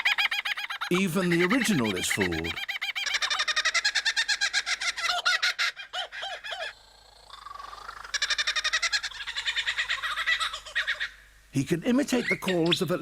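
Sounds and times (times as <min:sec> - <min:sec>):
lyrebird singing mimicked calls: 0:00.0 - 0:11.2, 0:11.9 - 0:13.0.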